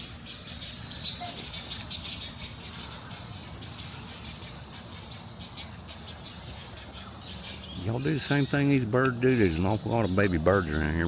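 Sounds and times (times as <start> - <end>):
insects pulsing song: 0.0 - 11.0.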